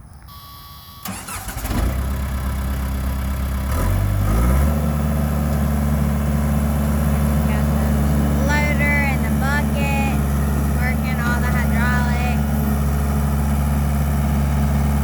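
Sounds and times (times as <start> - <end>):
diesel engine cranking and running: 1.0 - 15.0.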